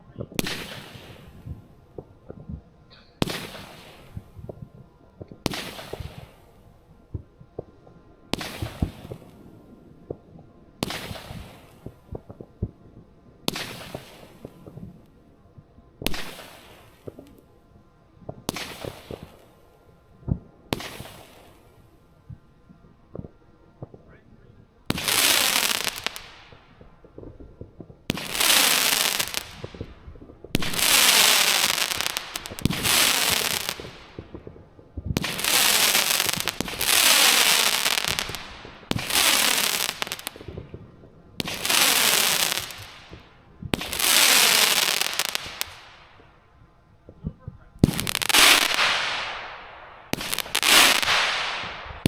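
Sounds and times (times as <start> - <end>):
firework hiss and crackle: 0.0 - 7.7, 8.3 - 12.8, 13.4 - 15.2, 16.0 - 17.6, 18.3 - 22.4, 24.8 - 46.4, 47.1 - 52.0.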